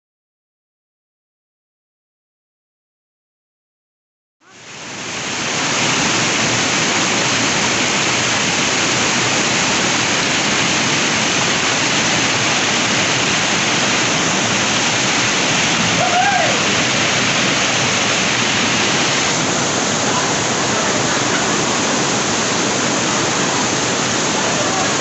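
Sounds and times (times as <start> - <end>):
waterfall rushing: 4.5 - 25.0.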